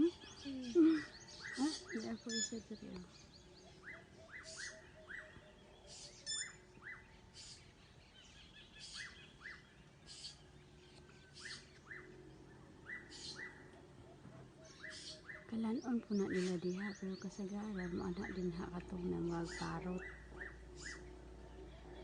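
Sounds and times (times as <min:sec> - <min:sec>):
birds chirping faintly: 0:00.0 - 0:22.0.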